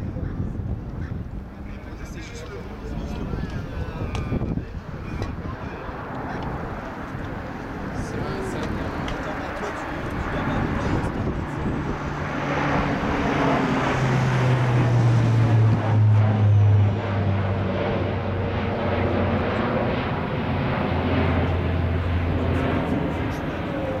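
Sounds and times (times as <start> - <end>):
propeller aircraft flying overhead: 0.0 - 24.0.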